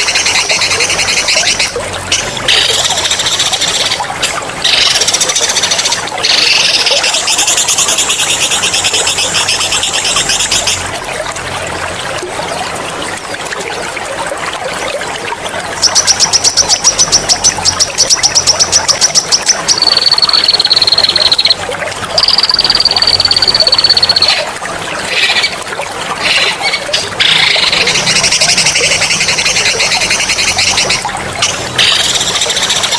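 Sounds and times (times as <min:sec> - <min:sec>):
running water trickling: 0:00.0 - 0:32.9.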